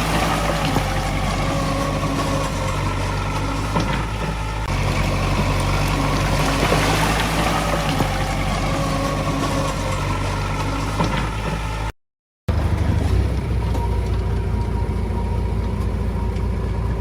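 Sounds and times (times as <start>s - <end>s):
bulldozer diesel engine running: 0.0s - 11.9s, 12.5s - 17.0s.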